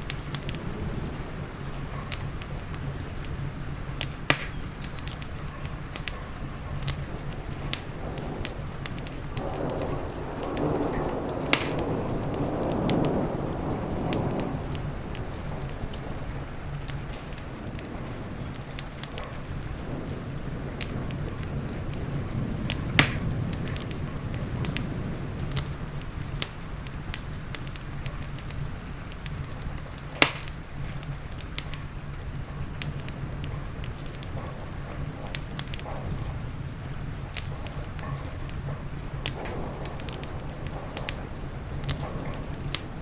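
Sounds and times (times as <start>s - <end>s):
rain hiss: 0.0s - 43.0s
wood fire crackling and popping: 0.0s - 43.0s.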